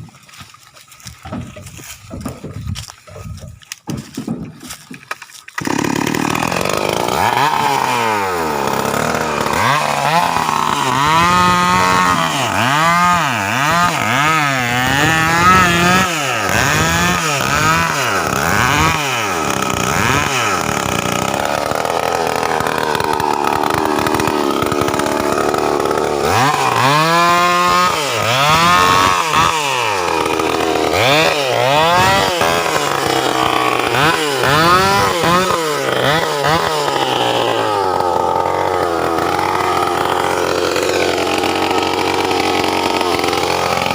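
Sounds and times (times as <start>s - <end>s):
chainsaw revving: 4.7s - 43.9s.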